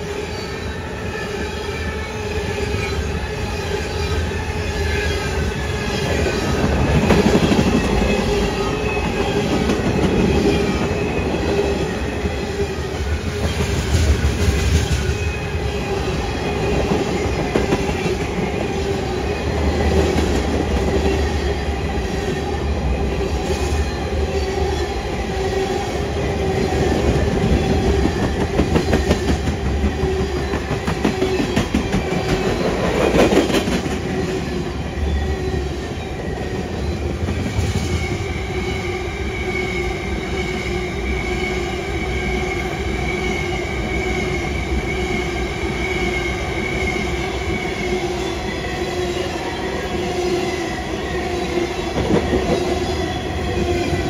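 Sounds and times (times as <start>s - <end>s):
wheels squealing on rail: 0.0s - 54.0s.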